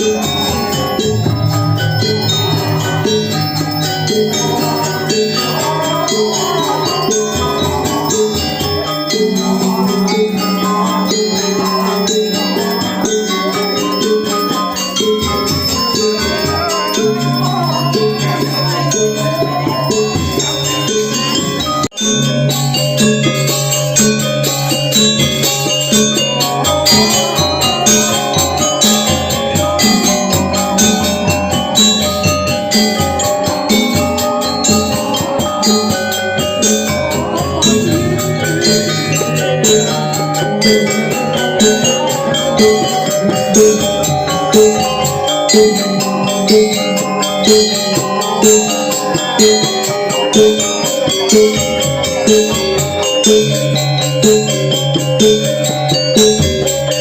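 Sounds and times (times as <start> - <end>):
gamelan music: 0.0 - 57.0.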